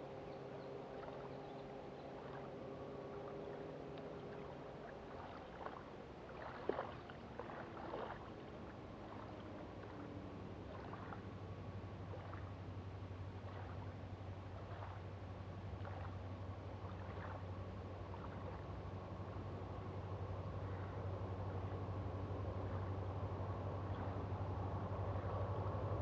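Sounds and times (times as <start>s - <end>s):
distant engine hum: 0.0s - 26.0s
gentle lapping water: 0.0s - 26.0s.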